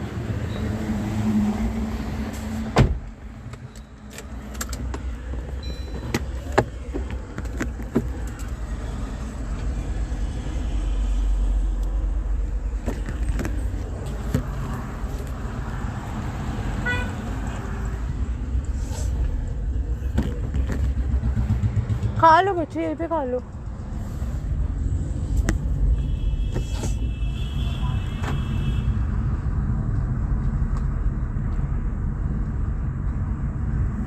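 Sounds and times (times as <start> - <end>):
motor vehicle rumble: 0.0 - 34.0.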